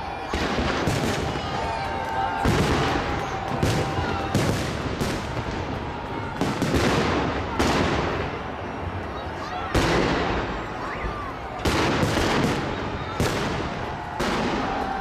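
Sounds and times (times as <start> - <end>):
fireworks bangs echoing: 0.2 - 8.7, 9.7 - 10.8, 11.6 - 15.0.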